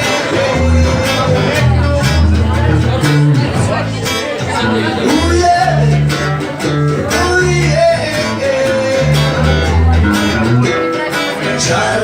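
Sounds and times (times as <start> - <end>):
guitar melody: 0.0 - 12.0
steady bass notes: 0.0 - 12.0.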